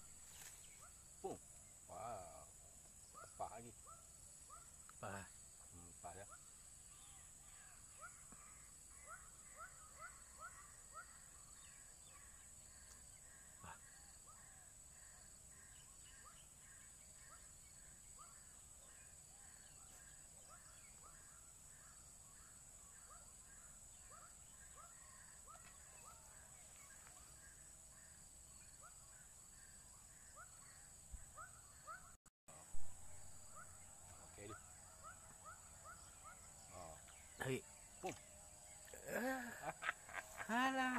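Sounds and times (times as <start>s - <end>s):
high insect drone: 0.0s - 31.9s, 32.5s - 40.9s.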